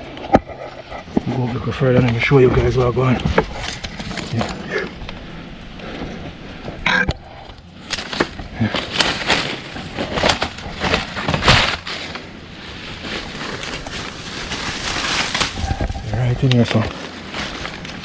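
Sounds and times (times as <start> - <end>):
dry leaves and twigs crackling: 0.0 - 18.0.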